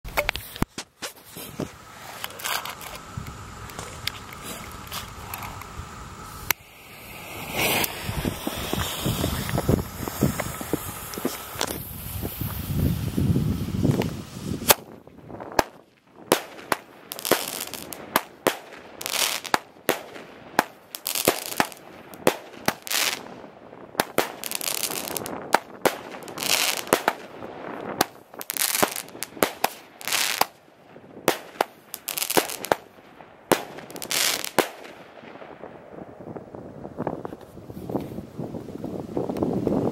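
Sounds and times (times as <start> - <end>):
firework rushing hisses: 0.2 - 30.6, 31.2 - 35.1
firework bangs: 0.2 - 36.6.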